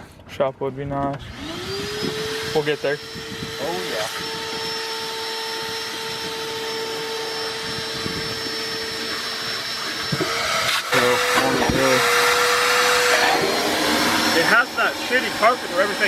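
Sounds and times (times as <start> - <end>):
vacuum cleaner whine: 1.2 - 16.0.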